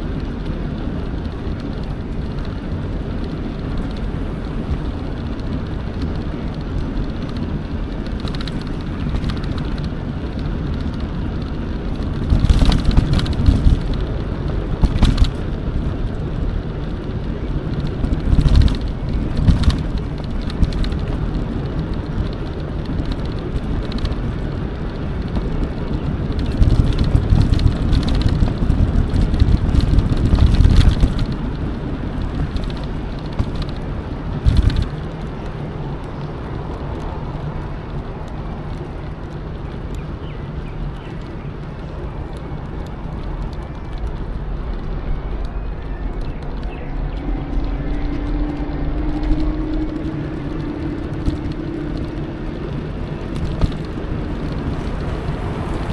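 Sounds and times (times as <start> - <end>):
bike riding rumble: 0.0 - 55.9.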